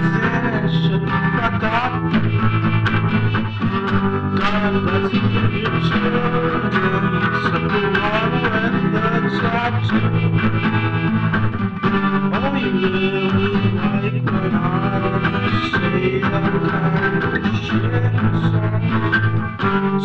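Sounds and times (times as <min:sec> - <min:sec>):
guitar song with sung vocal: 0:00.0 - 0:20.0.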